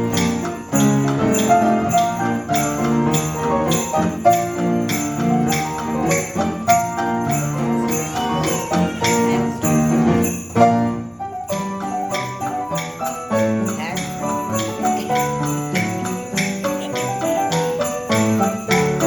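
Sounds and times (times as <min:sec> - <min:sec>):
sleigh bells shaken: 0:00.0 - 0:19.0.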